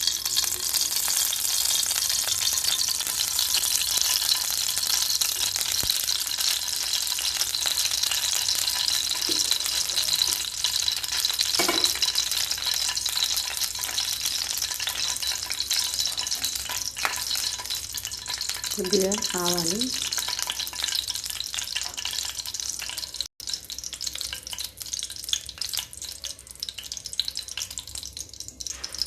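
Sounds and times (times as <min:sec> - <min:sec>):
oil sizzling and crackling: 0:00.0 - 0:29.0.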